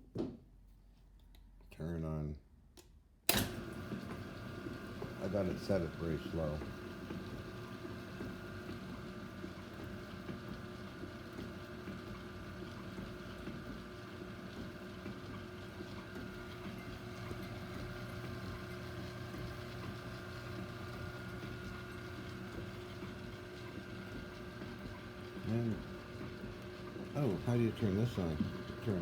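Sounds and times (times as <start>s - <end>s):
electric motor hum: 3.5s - 11.2s, 13.3s - 29.0s.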